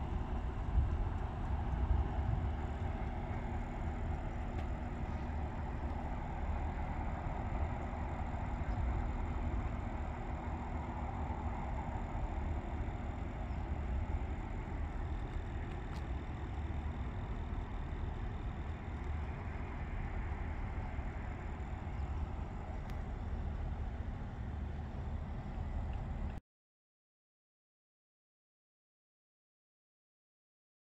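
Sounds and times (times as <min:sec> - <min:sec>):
engine idling: 0:00.0 - 0:26.4.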